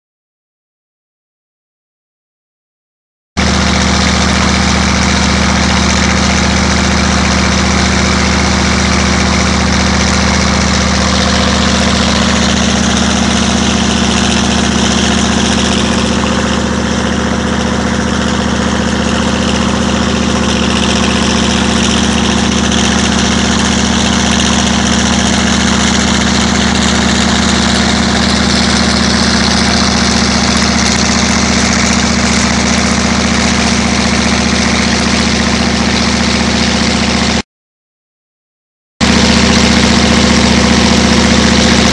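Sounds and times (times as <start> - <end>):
engine running steadily: 3.4 - 37.4, 39.0 - 41.9.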